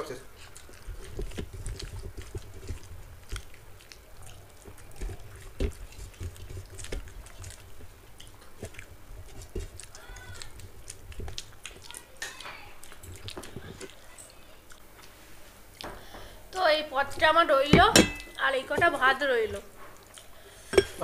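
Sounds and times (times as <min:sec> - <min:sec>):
chewing and mouth smacks: 0:00.0 - 0:16.1, 0:18.2 - 0:21.0.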